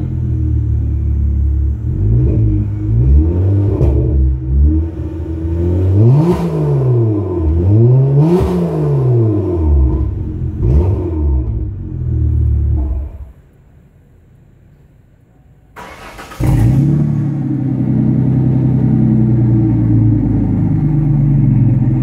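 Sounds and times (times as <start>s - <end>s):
car engines idling and revving: 0.0s - 22.0s.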